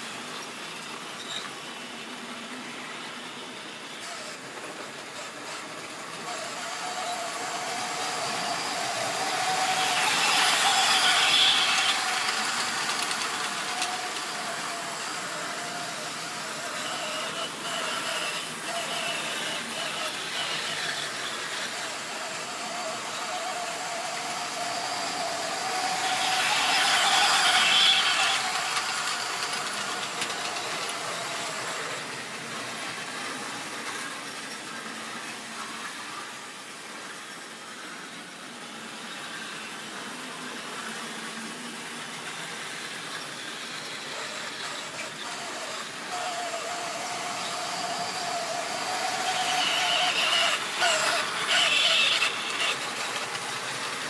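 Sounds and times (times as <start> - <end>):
electric locomotive motor whine: 0.0 - 54.0
wheels rushing on track: 0.0 - 54.0.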